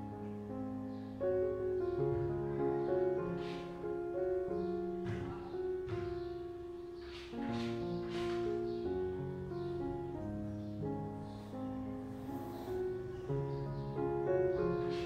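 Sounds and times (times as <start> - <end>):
slow held keyboard notes: 0.0 - 15.0.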